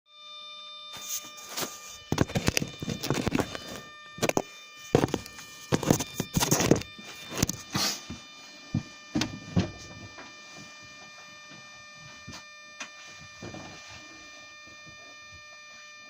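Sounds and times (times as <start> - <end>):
faint high whine: 0.1 - 16.0.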